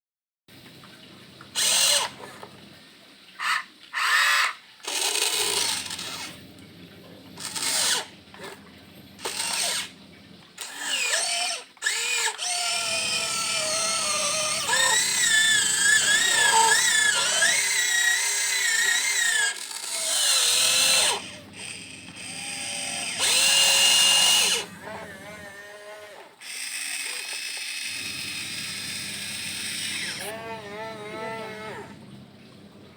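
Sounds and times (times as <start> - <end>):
electric motors whining: 1.5 - 2.5, 4.0 - 6.5, 7.4 - 32.9.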